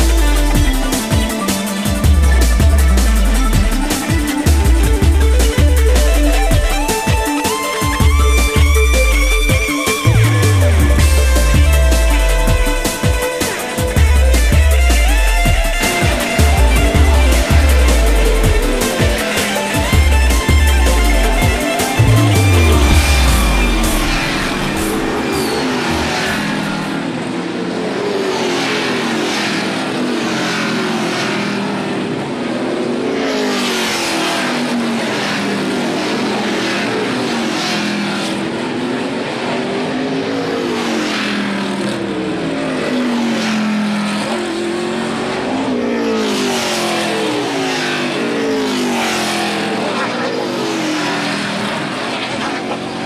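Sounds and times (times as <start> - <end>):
race car engines braking and accelerating: 0.0 - 53.0.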